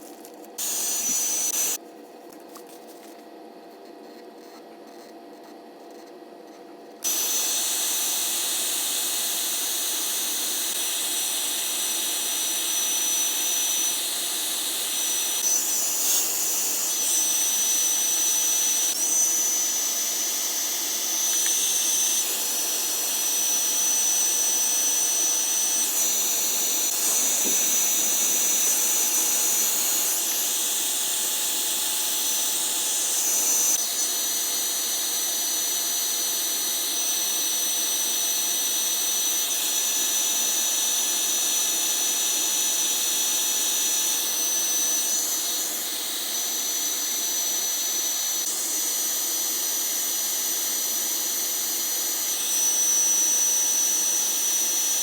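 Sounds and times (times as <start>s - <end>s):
high-pitched machine hiss: 0.0s - 1.8s, 7.0s - 55.0s.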